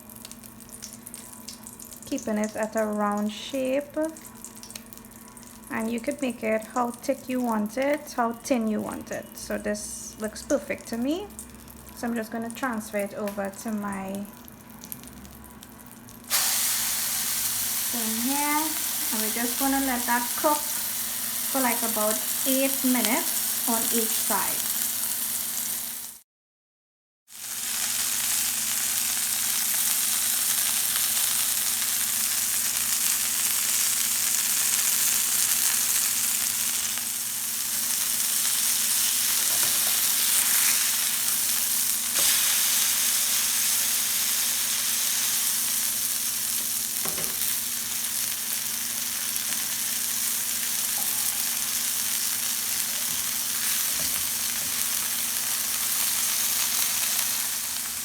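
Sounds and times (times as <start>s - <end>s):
patty sizzling in a pan: 9.5s - 26.2s, 27.3s - 58.0s.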